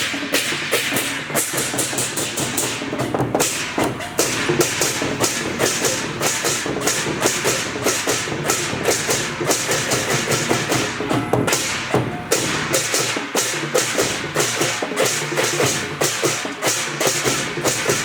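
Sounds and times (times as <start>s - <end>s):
loud busy percussion: 0.0s - 18.0s.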